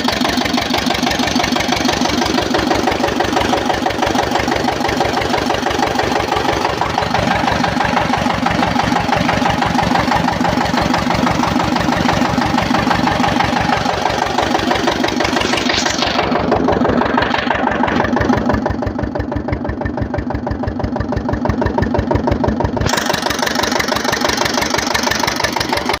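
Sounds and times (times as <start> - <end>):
stationary engine running: 0.0 - 26.0.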